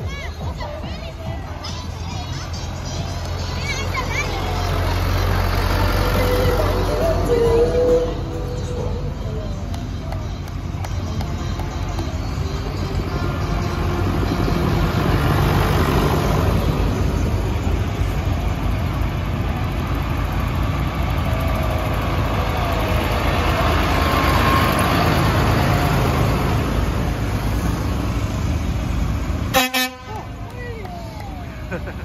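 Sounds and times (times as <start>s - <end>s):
tractor diesel engines passing: 0.0s - 32.0s.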